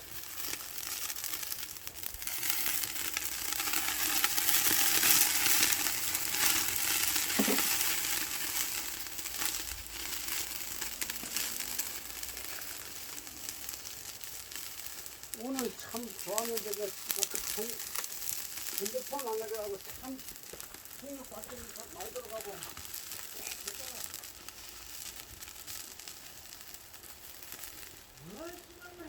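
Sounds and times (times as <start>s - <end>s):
meat sizzling on a grill: 0.0s - 29.0s.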